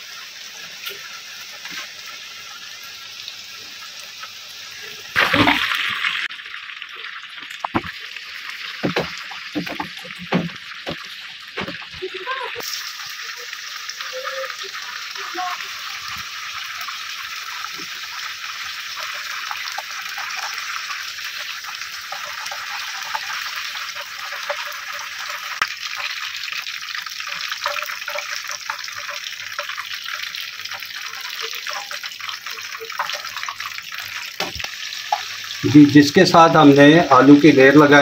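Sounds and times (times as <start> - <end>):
hot oil sizzling and crackling: 0.0 - 38.0.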